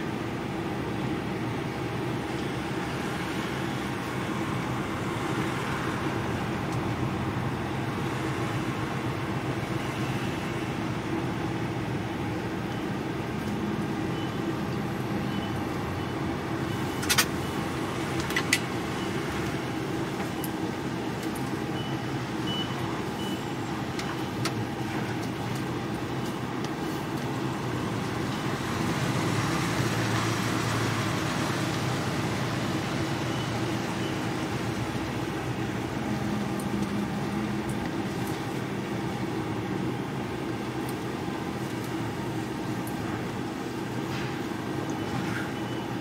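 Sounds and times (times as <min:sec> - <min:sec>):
truck diesel engine running: 0:00.0 - 0:45.8.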